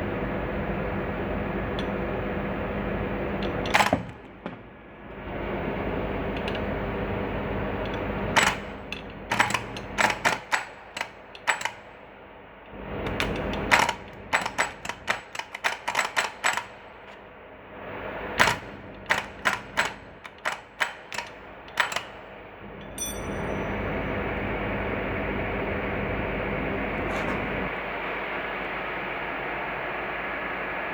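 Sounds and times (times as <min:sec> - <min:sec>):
steady humming noise: 0:00.0 - 0:30.9.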